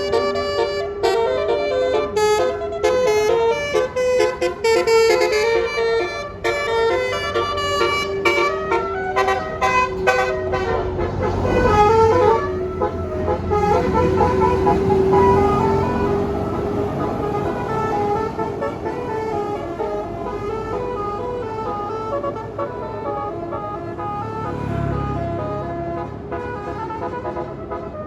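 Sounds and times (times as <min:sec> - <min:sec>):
bus musical horn playing a tune: 0:00.0 - 0:28.0
low bus engine rumble: 0:00.0 - 0:28.0.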